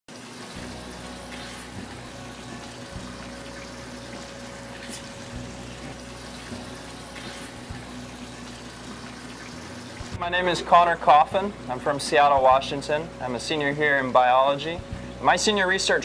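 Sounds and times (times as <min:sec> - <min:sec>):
water running and trickling: 0:00.1 - 0:16.0.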